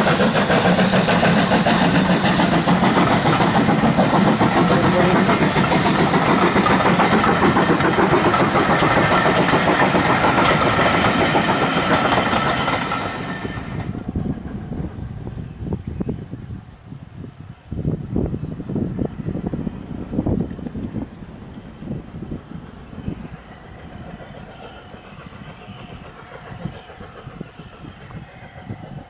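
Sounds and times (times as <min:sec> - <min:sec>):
steam train running past: 0:00.0 - 0:29.0.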